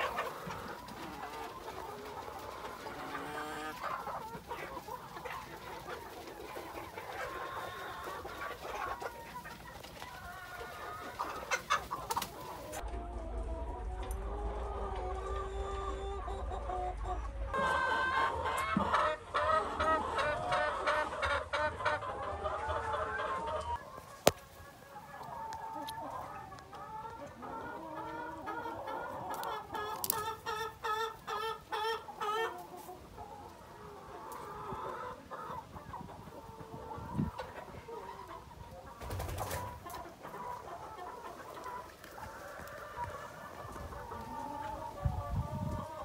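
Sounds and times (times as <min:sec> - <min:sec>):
hens clucking: 0:00.0 - 0:46.0.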